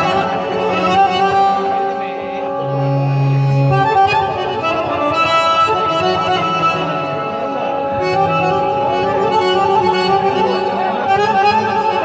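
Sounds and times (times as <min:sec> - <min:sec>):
accordion melody: 0:00.0 - 0:12.0.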